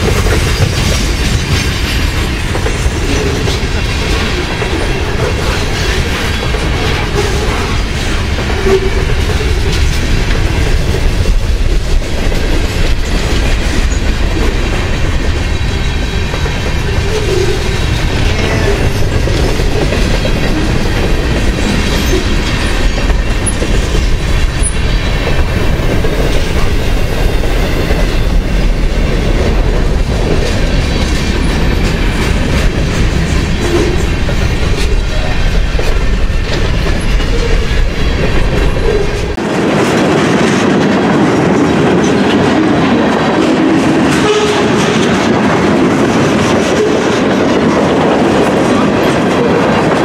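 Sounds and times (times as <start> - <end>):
freight train wheels clattering: 0.0 - 50.0.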